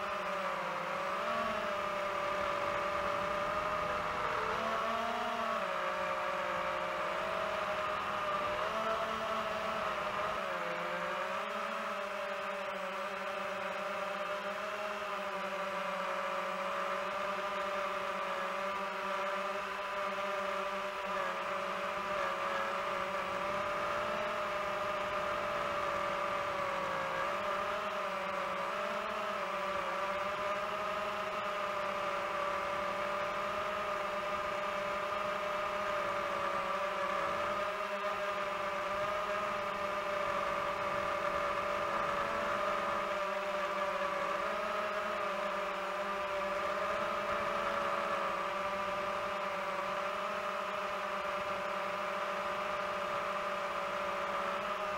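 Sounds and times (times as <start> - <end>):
drone propellers whining: 0.0 - 54.9.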